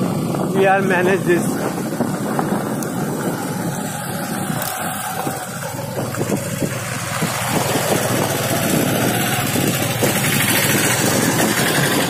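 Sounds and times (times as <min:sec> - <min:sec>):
motorcycle engine running: 0:00.0 - 0:12.0
wind and road noise: 0:00.0 - 0:12.0
jolts from rough road: 0:01.5 - 0:12.0.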